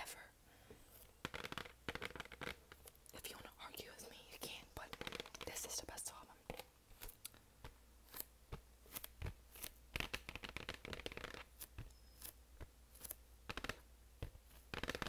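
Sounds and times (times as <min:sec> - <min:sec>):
nails tapping on vinyl sleeve: 0:01.0 - 0:03.5, 0:04.4 - 0:15.0.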